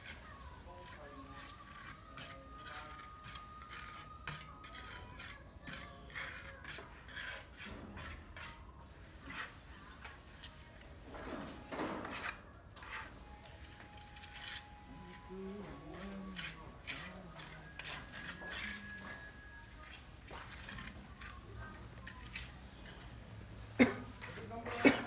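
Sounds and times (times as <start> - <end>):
hand tool scraping a surface: 0.0 - 8.6, 9.2 - 23.2, 24.1 - 25.0.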